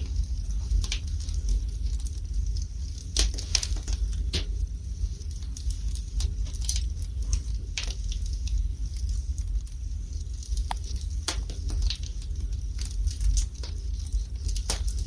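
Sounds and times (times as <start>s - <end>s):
fire crackling in a fireplace: 0.0s - 15.0s.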